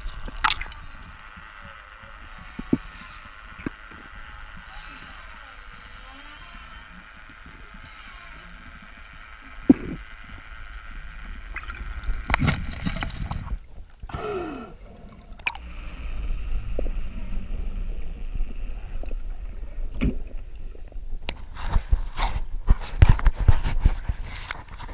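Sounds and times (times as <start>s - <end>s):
water splashing: 0.0s - 22.0s
bubbling: 0.0s - 22.7s
muffled underwater rumble: 0.0s - 24.9s.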